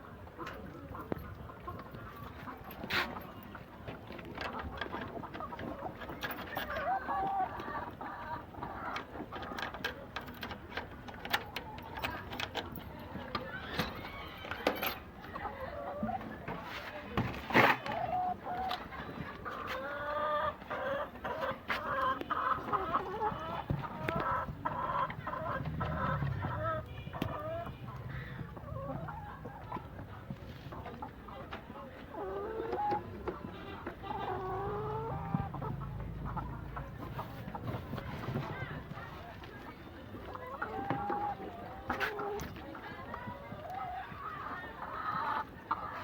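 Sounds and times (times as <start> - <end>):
hens clucking and squawking: 0.0 - 46.0.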